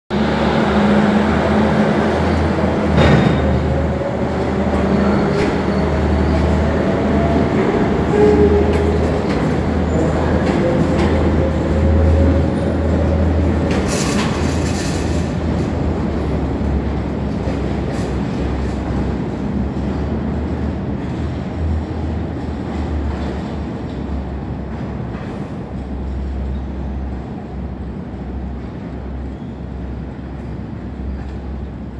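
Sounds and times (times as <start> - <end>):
train rumbling over rails: 0.1 - 31.9.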